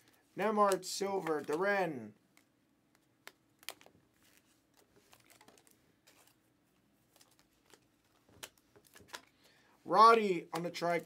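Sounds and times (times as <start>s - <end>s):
cards clicking and rustling: 0.0s - 6.4s, 7.0s - 9.5s, 10.1s - 11.0s.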